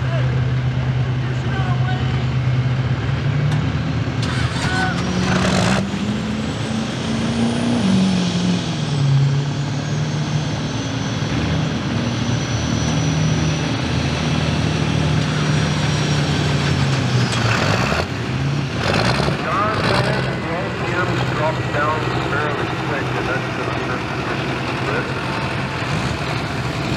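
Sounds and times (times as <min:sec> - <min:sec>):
diesel truck engine at full throttle: 0:00.0 - 0:26.9.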